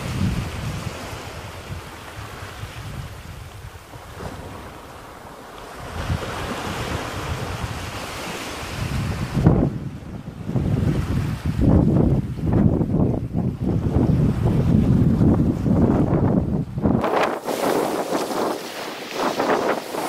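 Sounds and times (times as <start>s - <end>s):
surf washing on beach: 0.0s - 20.0s
wind buffeting microphone: 0.0s - 20.0s.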